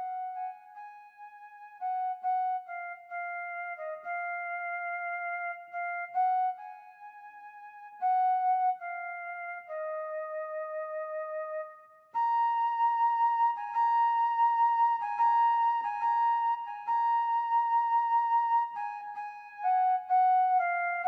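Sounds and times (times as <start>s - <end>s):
slow solo flute melody: 0.0s - 21.0s.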